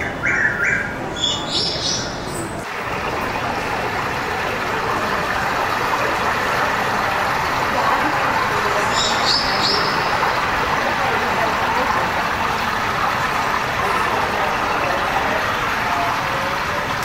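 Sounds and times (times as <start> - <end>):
faint indistinct voices: 0.0 - 17.0
traffic rumble and hiss: 0.0 - 17.0.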